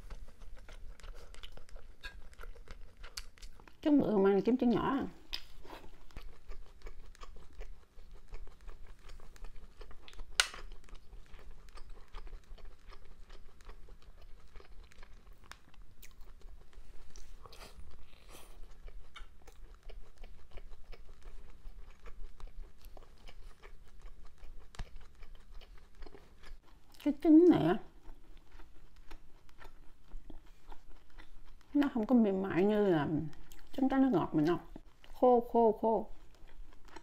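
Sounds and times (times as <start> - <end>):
chewing and wet mouth smacks: 0.0 - 3.8, 5.1 - 27.0, 27.9 - 31.8, 33.2 - 33.8, 36.1 - 37.0.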